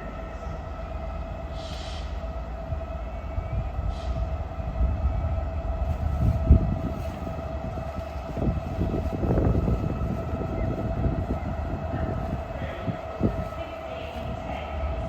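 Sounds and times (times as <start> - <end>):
train rumble with whine: 0.0 - 15.0.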